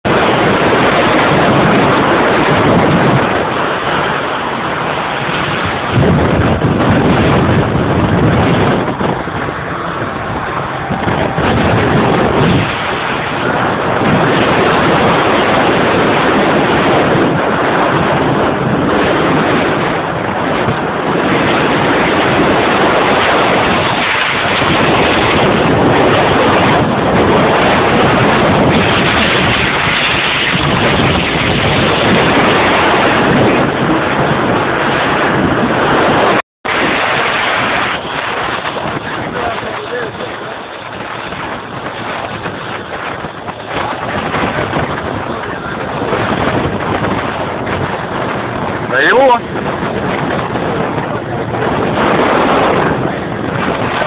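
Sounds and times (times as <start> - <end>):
waves rushing and splashing: 0.0 - 54.0
wind buffeting microphone: 0.0 - 54.0.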